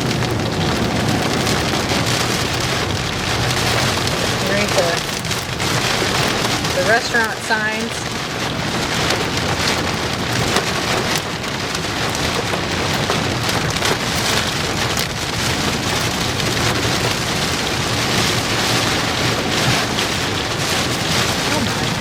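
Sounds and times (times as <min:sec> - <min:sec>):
rain on car roof: 0:00.0 - 0:22.0.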